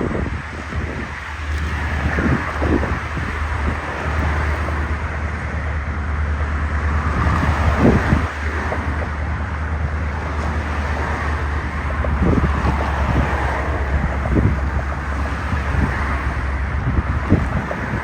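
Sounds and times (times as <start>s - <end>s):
low engine rumble: 0.0s - 18.0s
wind noise on microphone: 0.0s - 18.0s.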